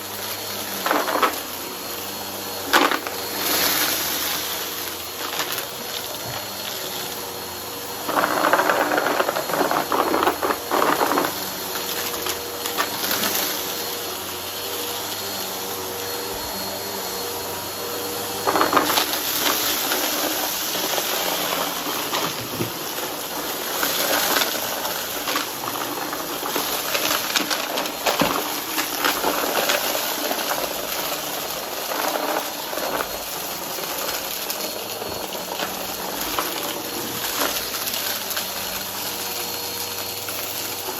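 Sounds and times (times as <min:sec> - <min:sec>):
debris rattling in vacuum: 0:00.0 - 0:40.9
vacuum cleaner motor: 0:00.0 - 0:40.9.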